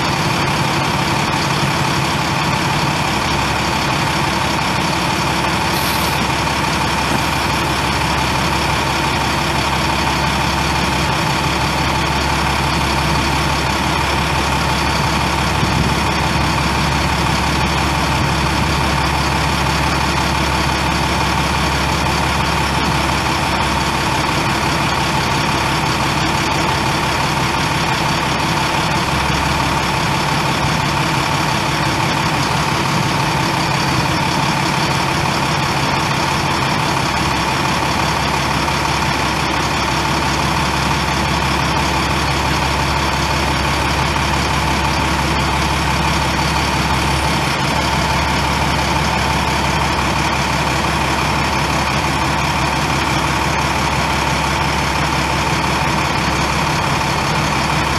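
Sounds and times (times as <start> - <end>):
diesel truck engine idling: 0.0 - 57.9.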